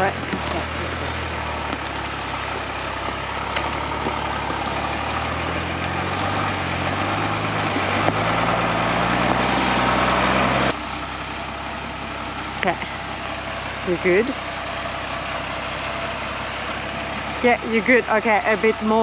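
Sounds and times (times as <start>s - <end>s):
diesel truck engine at low revs: 0.0s - 19.0s.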